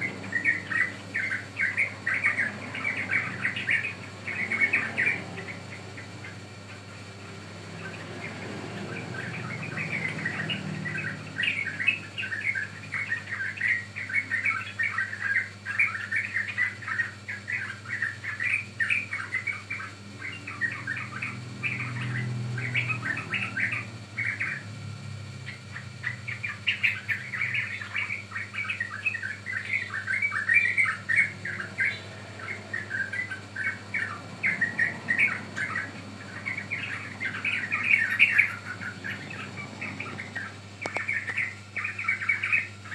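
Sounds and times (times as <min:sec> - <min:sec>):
bird chattering chirps: 0:00.0 - 0:42.9
low steady hum: 0:00.0 - 0:42.9.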